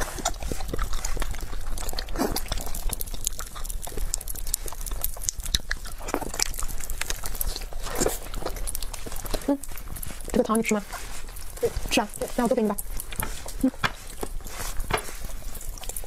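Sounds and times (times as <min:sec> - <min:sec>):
person chewing food: 0:00.0 - 0:16.0
wet mouth clicks and smacks: 0:00.0 - 0:16.0.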